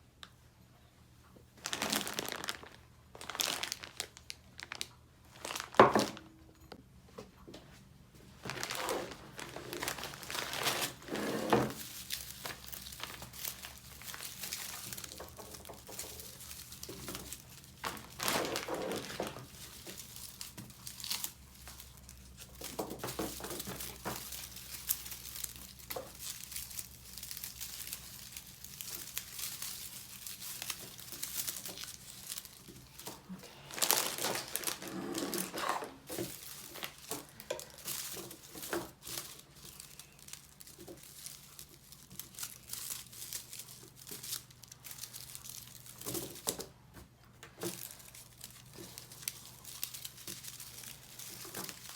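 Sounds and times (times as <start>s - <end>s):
crinkling and rustling: 1.2s - 51.9s.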